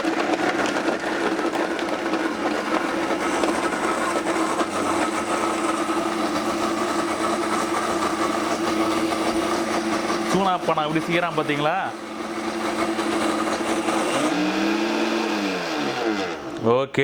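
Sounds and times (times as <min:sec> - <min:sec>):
blender whining: 0:00.0 - 0:16.8.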